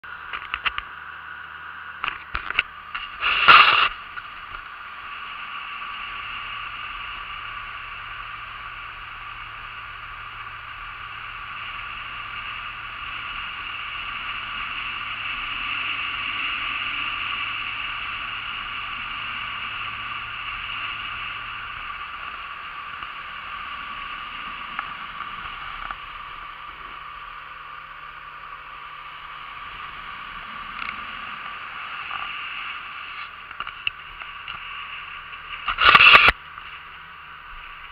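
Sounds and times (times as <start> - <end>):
outboard motor hiss: 0.1 - 37.9.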